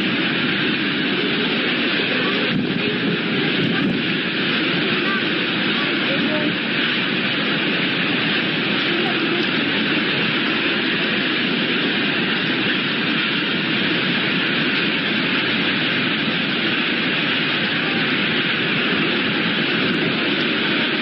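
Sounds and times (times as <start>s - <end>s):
typhoon wind and rain: 0.0s - 21.0s.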